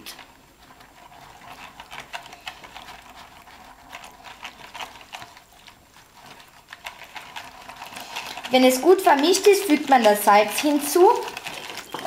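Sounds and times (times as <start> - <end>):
whisk clicking and scraping bowl: 0.0 - 12.0.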